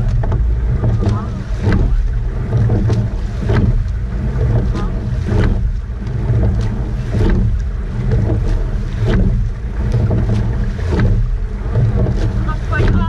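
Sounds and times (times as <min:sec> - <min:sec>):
oars clacking in oarlocks: 0:00.0 - 0:13.0
water rushing past hull: 0:00.0 - 0:13.0
wind rumbling on microphone: 0:00.0 - 0:13.0.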